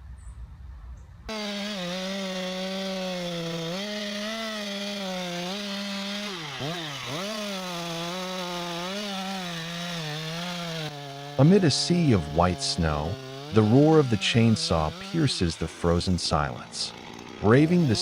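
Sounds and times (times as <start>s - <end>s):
chainsaw cutting wood: 1.3s - 18.0s.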